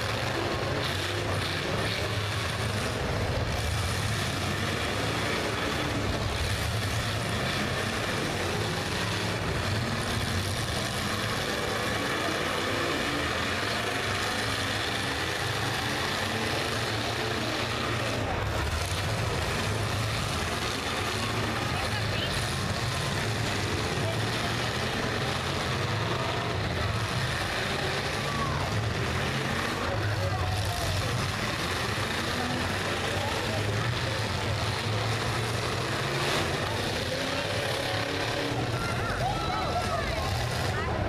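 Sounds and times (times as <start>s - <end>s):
car engines running together: 0.0s - 41.0s.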